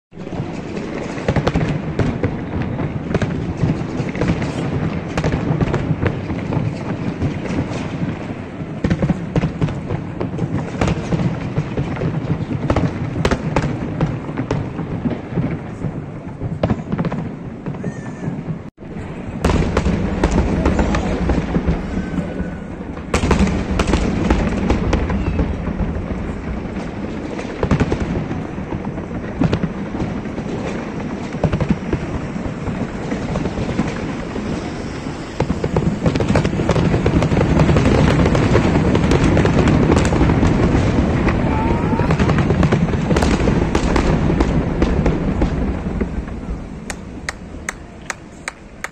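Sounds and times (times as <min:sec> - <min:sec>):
fireworks bursts and crackling: 0:00.1 - 0:48.9.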